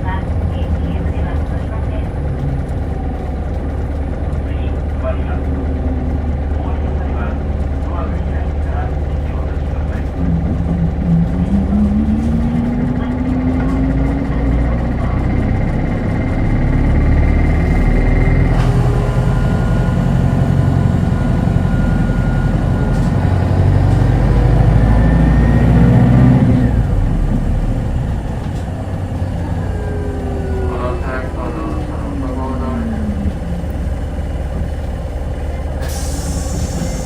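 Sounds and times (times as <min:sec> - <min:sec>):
bus engine rumble and whine: 0:00.0 - 0:37.0.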